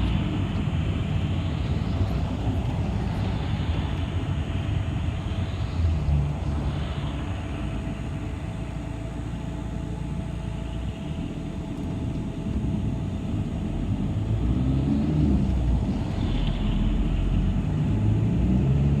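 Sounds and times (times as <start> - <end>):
bus engine and road rumble: 0.0 - 19.0
faint steady whine: 0.0 - 19.0.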